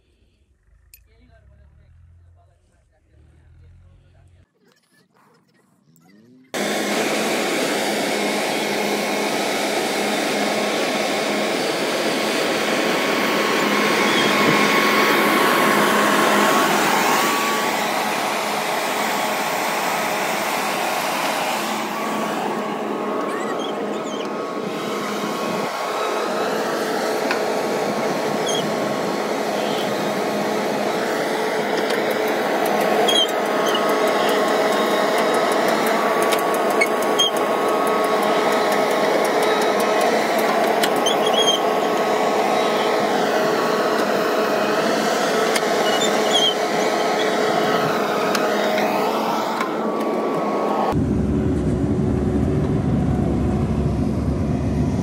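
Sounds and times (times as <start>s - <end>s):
diesel engines running: 0.0s - 4.5s, 5.6s - 55.0s.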